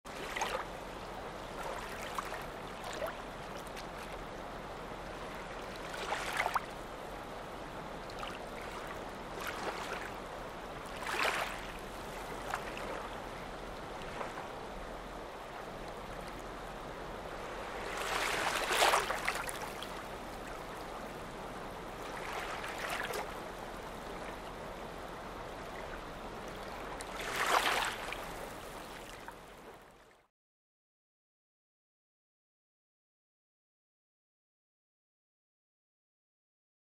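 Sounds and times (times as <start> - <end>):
small waves lapping at shore: 0.1 - 30.3
steady wash of water: 0.1 - 30.3.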